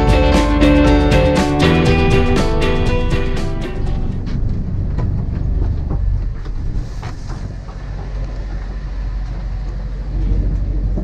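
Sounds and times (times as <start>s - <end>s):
ferry engine low rumble: 0.0s - 11.0s.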